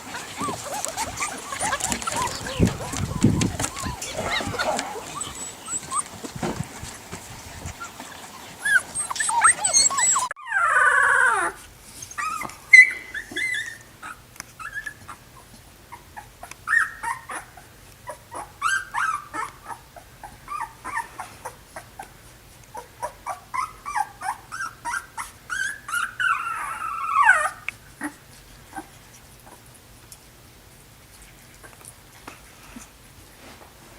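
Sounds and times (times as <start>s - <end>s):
puppies whimpering and yipping: 0.0s - 22.2s, 22.8s - 29.6s.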